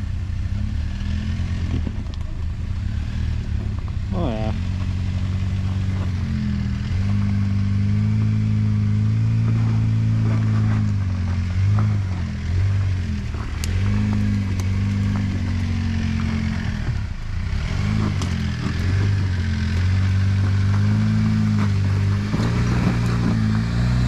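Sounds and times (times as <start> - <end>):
engine revving at low revs: 0.0 - 24.0.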